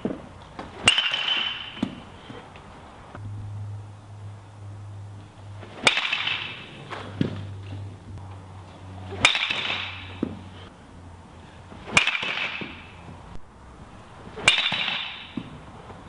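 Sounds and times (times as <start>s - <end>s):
baseball bat hitting balls: 0.0s - 3.3s, 5.4s - 10.7s, 11.6s - 16.0s.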